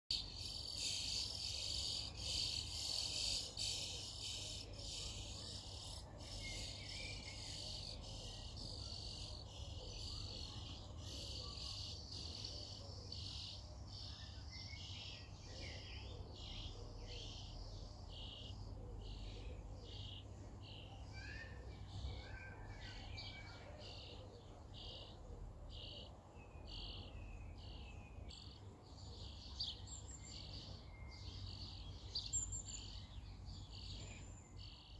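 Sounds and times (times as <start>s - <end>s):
bird chirps: 0.1s - 34.9s.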